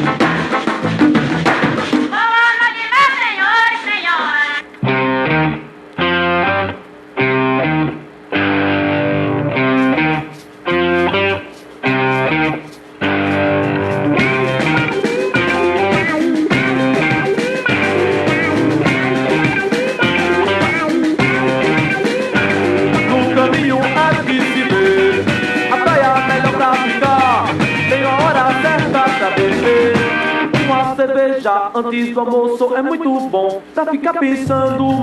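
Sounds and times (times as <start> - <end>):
guitar-led band playing: 0.0 - 2.1, 4.8 - 31.2, 32.0 - 35.0.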